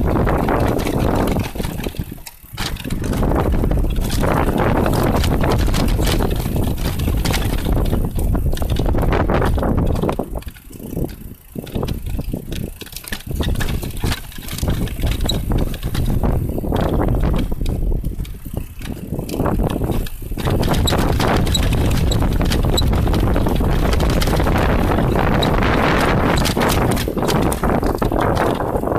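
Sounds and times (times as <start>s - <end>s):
bike clattering over ground: 0.0s - 28.9s
rush of air and tyre noise: 0.0s - 28.9s.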